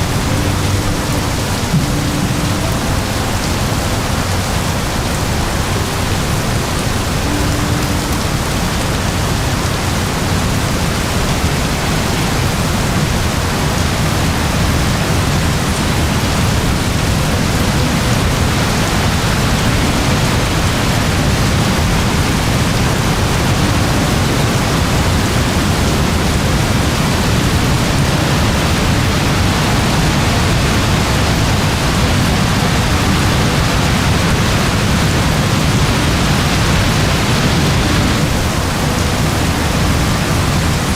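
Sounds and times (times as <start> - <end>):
very heavy rain: 0.0 - 40.9.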